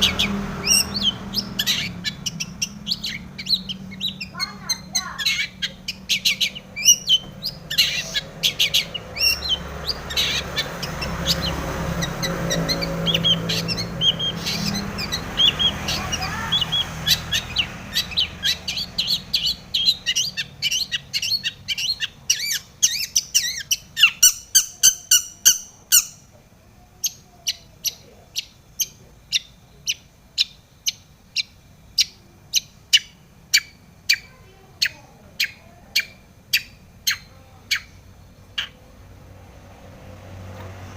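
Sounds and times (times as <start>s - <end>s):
bird harsh calls: 0.0s - 26.3s, 27.0s - 38.9s
bird singing chattering song: 0.0s - 39.1s.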